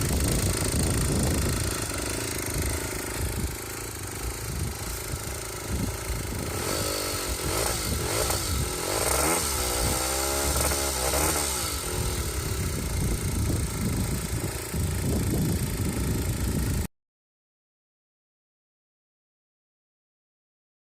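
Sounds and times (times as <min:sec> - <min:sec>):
scooter engine idling and revving: 0:00.0 - 0:16.9.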